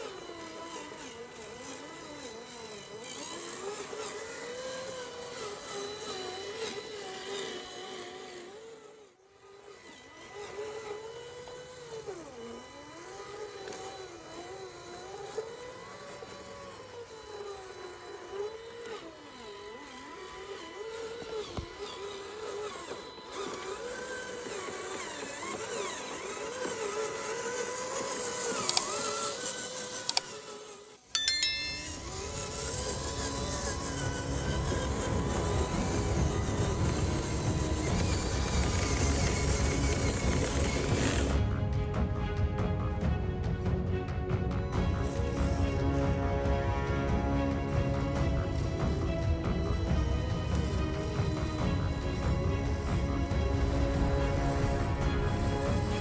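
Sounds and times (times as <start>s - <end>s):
small electric motors whining: 0.0s - 41.4s, 44.6s - 46.4s, 47.0s - 56.0s.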